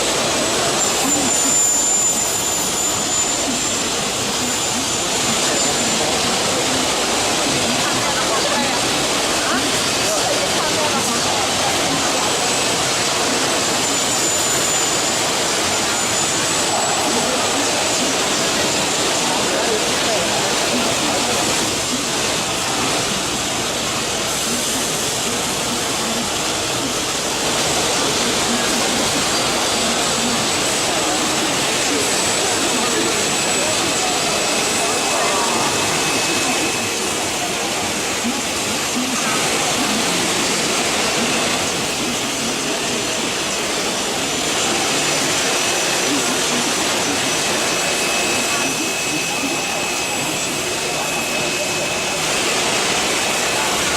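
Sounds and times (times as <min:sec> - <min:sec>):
machining center rushing hiss: 0:00.0 - 0:53.9
thin high whine: 0:00.0 - 0:53.9.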